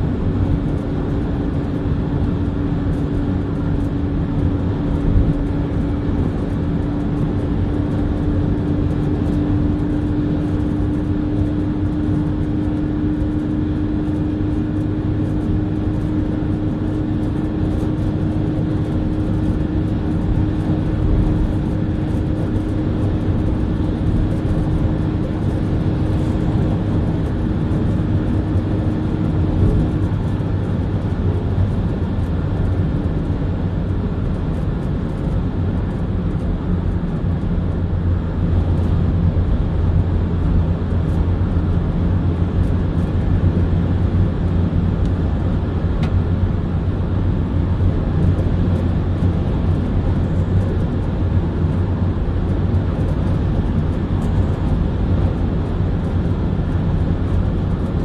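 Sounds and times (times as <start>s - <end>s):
tyre and wind road noise: 0.0s - 58.0s.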